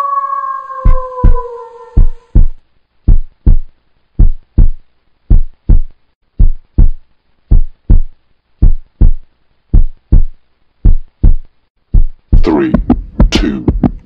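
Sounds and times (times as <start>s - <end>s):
heartbeat thumps: 0.8s - 14.0s.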